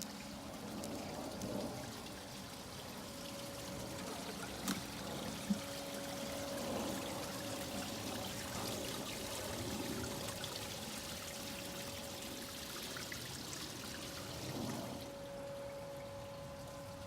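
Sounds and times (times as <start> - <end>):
water pouring into a pool: 0.0 - 17.0
steady hum: 0.1 - 17.0.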